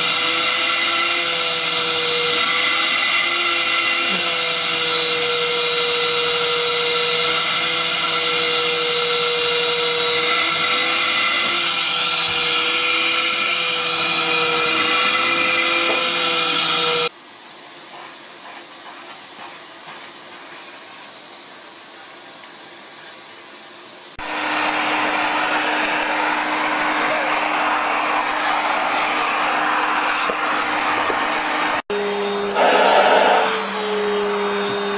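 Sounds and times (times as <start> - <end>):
vacuum cleaner motor whine: 0.0 - 17.2, 21.5 - 34.9.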